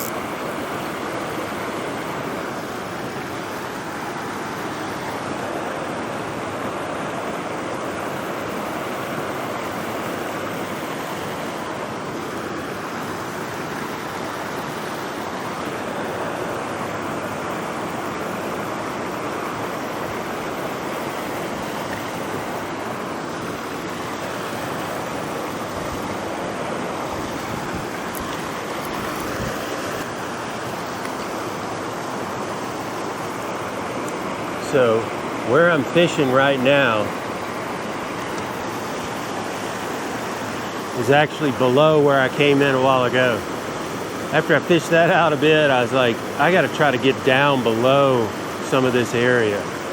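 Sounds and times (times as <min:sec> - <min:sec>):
stream rushing over rocks: 0:00.0 - 0:49.9.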